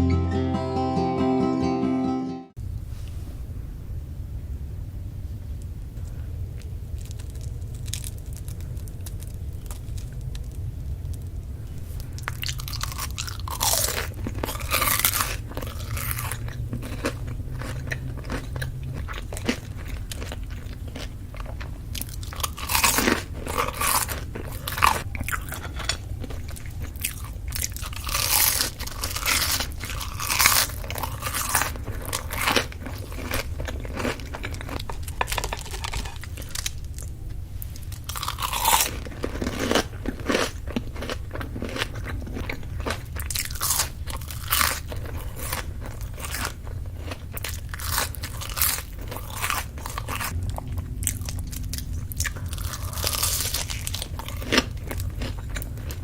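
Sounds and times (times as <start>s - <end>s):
steady low hum: 0.0s - 56.0s
crunchy chewing: 6.0s - 56.0s.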